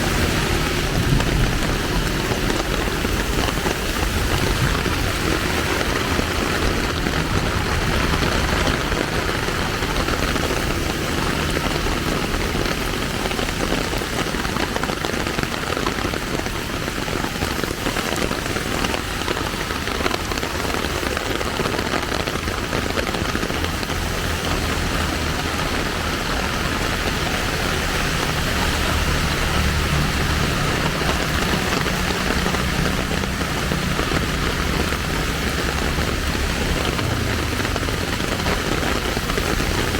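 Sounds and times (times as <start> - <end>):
rain falling on street: 0.0 - 39.9
vehicle engine hum: 0.0 - 39.9.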